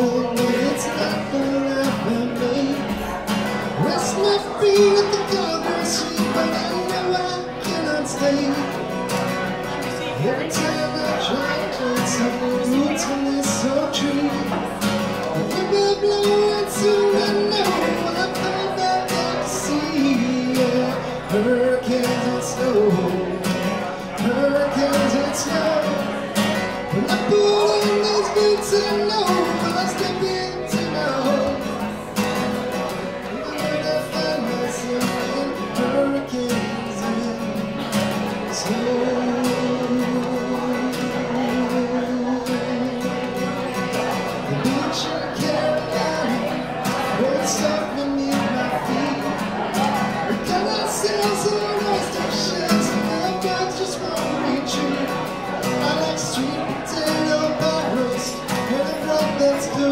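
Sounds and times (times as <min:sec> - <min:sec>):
acoustic guitar strumming: 0:00.0 - 0:59.9
man singing into a microphone: 0:00.0 - 0:59.9.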